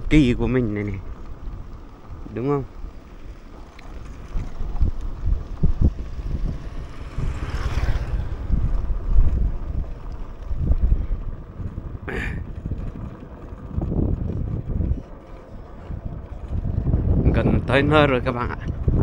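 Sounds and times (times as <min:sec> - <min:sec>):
motorbike road rumble: 0:00.0 - 0:19.0
wind buffeting microphone: 0:00.0 - 0:19.0.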